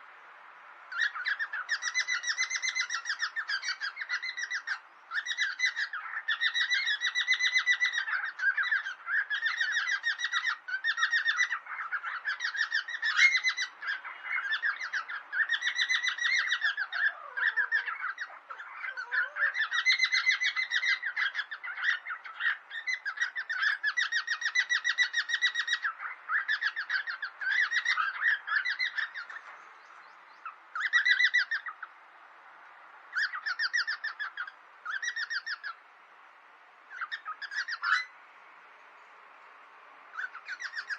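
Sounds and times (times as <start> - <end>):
cockatiels chirping: 0.9 - 29.6, 30.4 - 31.9, 33.2 - 35.8, 36.9 - 38.1, 40.2 - 40.9.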